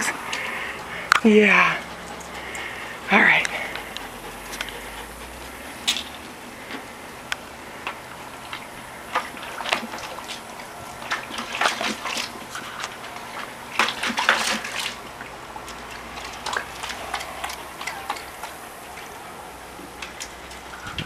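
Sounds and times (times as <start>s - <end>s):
dogs lapping water: 0.0s - 21.0s.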